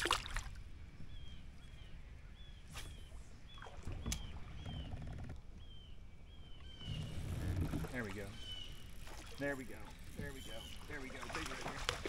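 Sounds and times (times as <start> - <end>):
bird chirping: 1.0 - 11.6.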